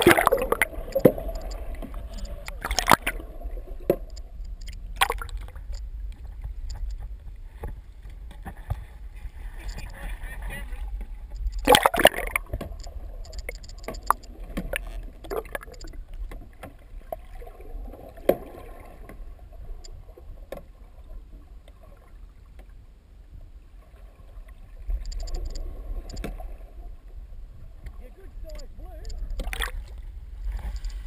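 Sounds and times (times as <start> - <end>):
muffled underwater rumble: 0.0 - 31.0.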